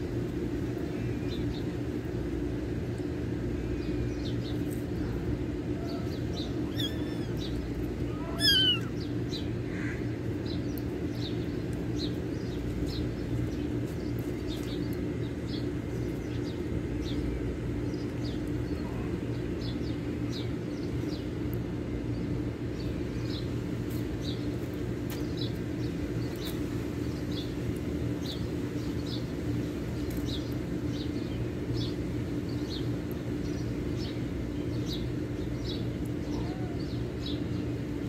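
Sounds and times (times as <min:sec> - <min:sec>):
steady low hum: 0:00.0 - 0:38.0
small birds chirping: 0:00.1 - 0:38.0.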